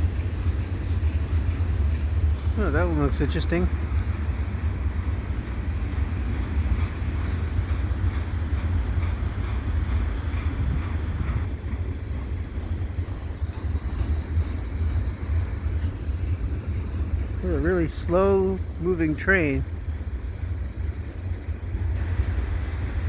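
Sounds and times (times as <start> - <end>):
freight train cars rumbling past: 0.0 - 23.0.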